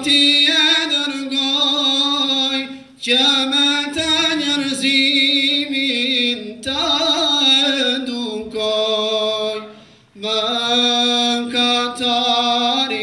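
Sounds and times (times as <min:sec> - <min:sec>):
male vocal group singing: 0:00.0 - 0:13.0.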